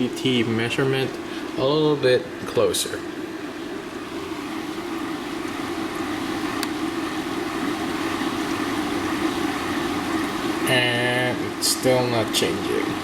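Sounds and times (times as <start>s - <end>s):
air purifier motor whirring: 0.0s - 13.0s.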